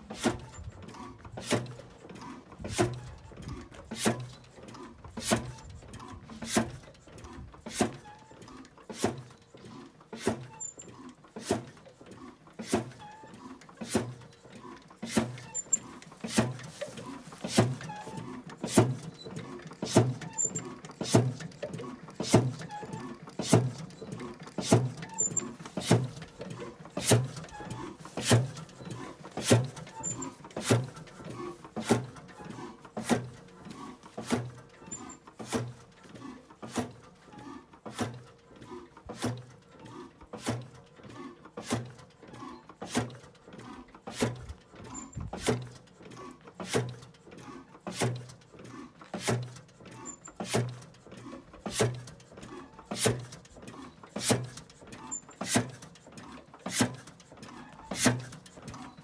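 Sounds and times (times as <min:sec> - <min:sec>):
stationary engine running slowly: 0:00.0 - 0:59.0.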